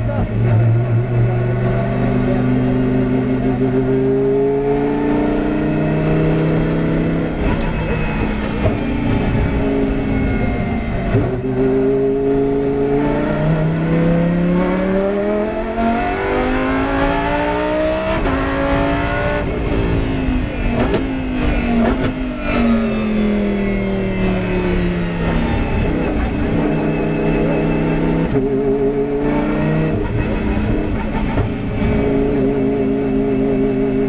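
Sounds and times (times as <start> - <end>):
race car engine: 0.0 - 34.0.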